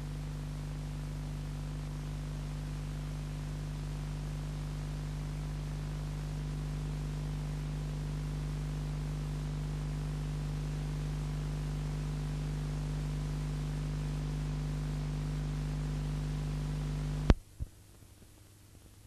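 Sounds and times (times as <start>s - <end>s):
electrical mains hum: 0.0s - 19.0s
faint tape hiss: 0.0s - 19.0s.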